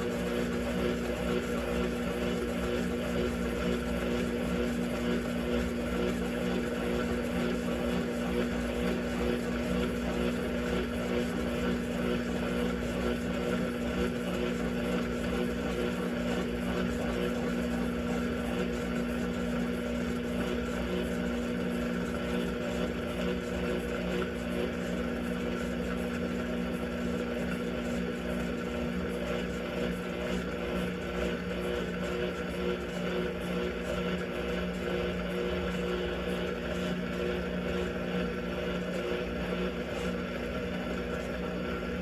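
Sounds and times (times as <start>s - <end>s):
washing machine motor hum: 0.0s - 42.0s.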